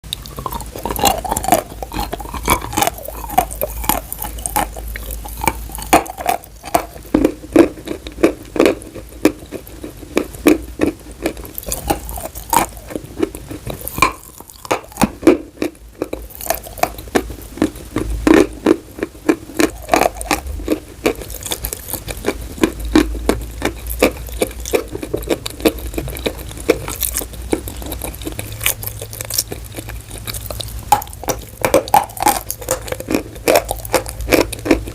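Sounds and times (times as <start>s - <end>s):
chalk being chewed: 0.1s - 34.9s.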